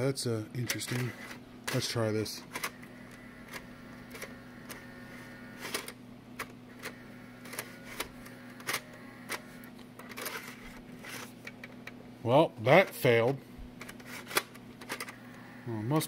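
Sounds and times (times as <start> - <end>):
faint motor whine: 0.0 - 16.0
steady hum: 0.0 - 16.0
disc drive mechanism clicking: 0.7 - 1.8, 2.5 - 12.0, 13.8 - 16.0.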